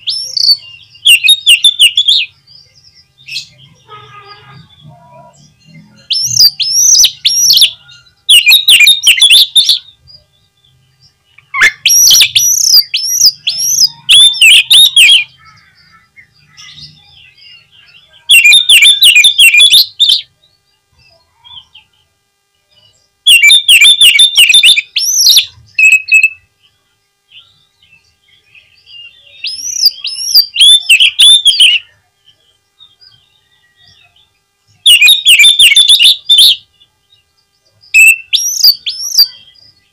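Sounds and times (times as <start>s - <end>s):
magpie-robin singing: 0.0s - 3.9s, 4.6s - 22.0s, 22.7s - 26.7s, 27.3s - 39.9s.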